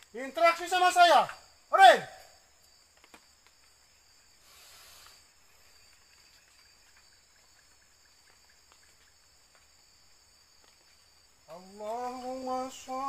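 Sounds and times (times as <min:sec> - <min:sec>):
night insects chirring: 0:00.0 - 0:13.0
soft hiss: 0:01.1 - 0:13.0.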